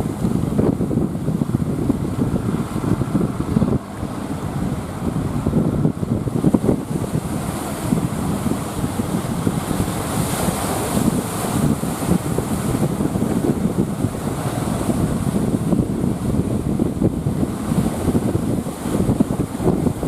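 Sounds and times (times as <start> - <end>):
surf rushing: 0.0 - 20.0
wind buffeting microphone: 0.0 - 20.0.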